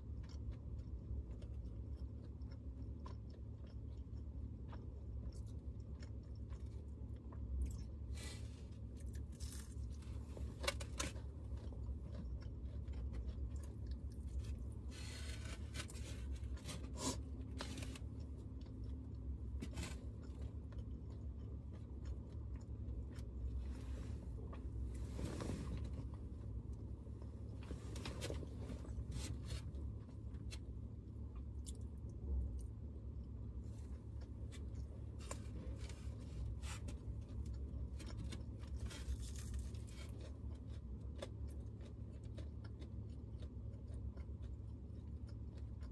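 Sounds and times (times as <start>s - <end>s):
person chewing and crunching: 0.0s - 45.9s
steady low hum: 0.0s - 45.9s.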